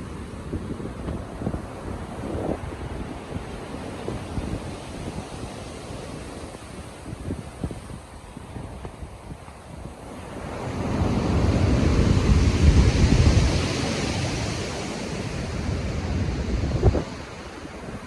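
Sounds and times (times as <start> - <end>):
waves crashing: 0.0 - 18.0.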